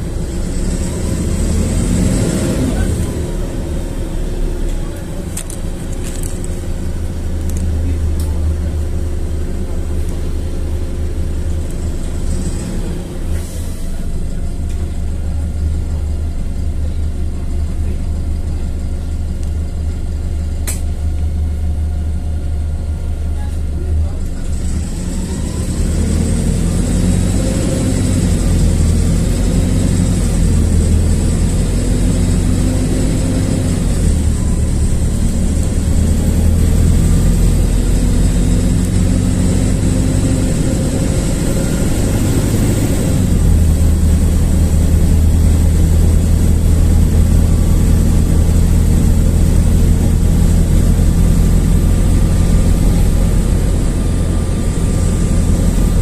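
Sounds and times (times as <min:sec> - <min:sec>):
bus diesel engine drone: 0:00.0 - 0:56.0
road noise: 0:00.0 - 0:56.0.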